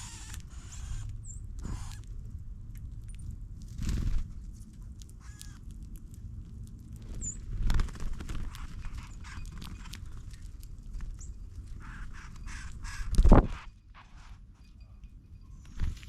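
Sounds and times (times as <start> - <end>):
birds pecking seed: 0.0 - 16.0
low steady rumble: 0.0 - 16.0.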